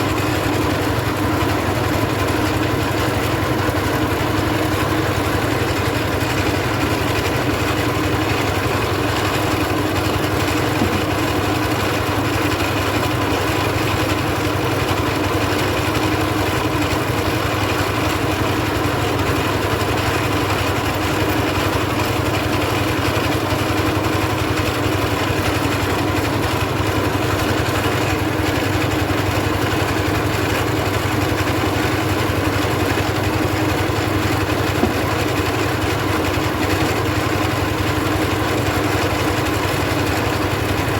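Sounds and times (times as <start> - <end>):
rice milling machine droning: 0.0 - 40.9.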